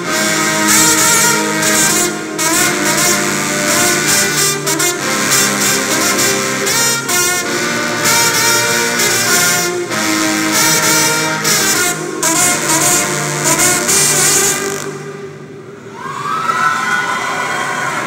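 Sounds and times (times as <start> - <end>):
trombones playing brass chords: 0.0 - 15.7.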